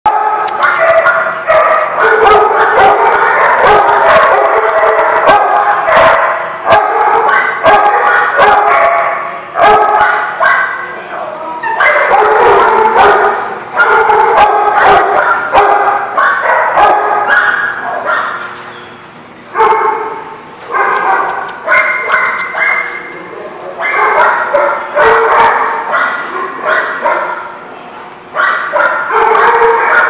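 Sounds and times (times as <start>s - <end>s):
dogs barking and yipping: 0.1s - 10.9s, 11.6s - 18.8s, 19.5s - 23.2s, 23.8s - 27.6s, 28.4s - 30.0s.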